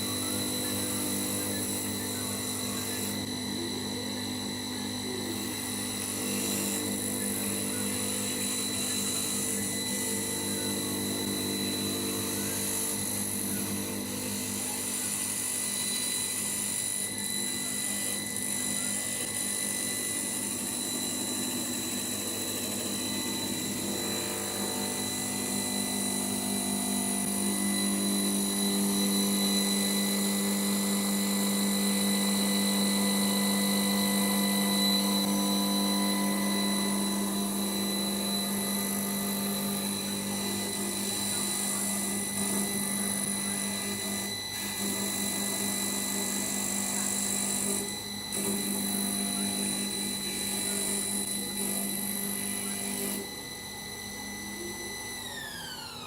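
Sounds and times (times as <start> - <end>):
high electric whine: 0.0 - 56.0
wood lathe machine hum: 0.0 - 56.0.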